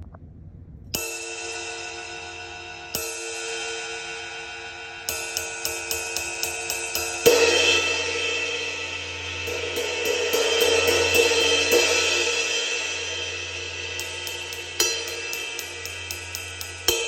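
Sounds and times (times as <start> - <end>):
ride cymbal played with a stick: 1.0 - 17.0.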